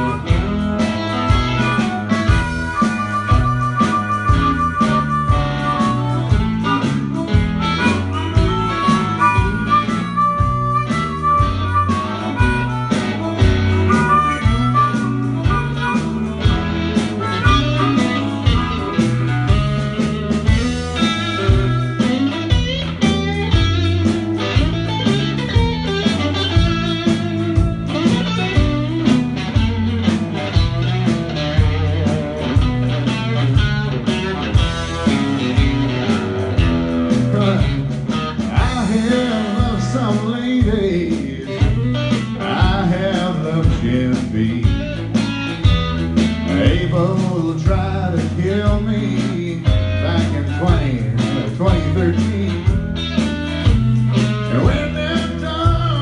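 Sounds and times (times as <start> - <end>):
country-rock band playing: 0.0 - 56.0.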